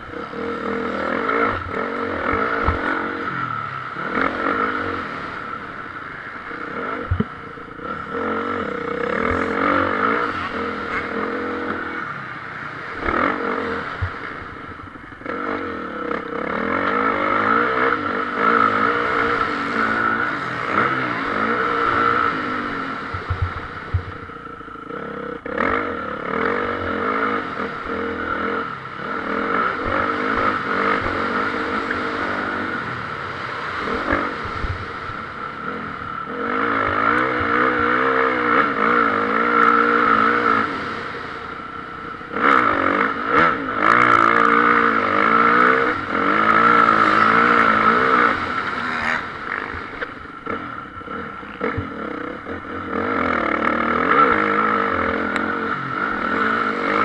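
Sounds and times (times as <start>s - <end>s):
motocross engines revving: 0.0s - 57.0s.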